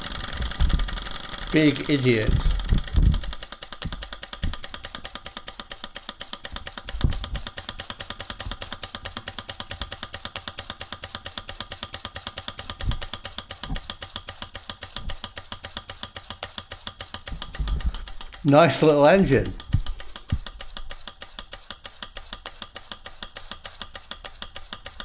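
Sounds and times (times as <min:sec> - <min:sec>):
model steam engine chuffing: 0:00.0 - 0:25.0.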